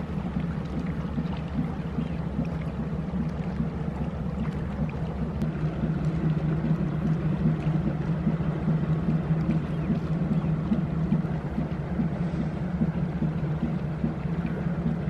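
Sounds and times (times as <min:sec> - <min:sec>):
ship diesel engine throbbing: 0:00.0 - 0:15.0.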